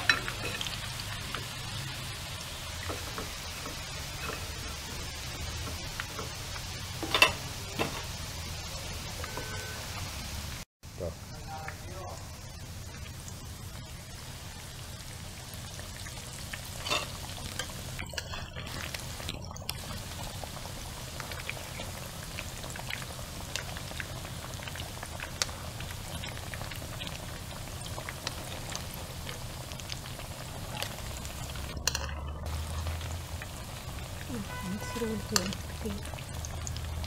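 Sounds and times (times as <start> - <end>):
fish deep-frying in oil: 0.0 - 37.0.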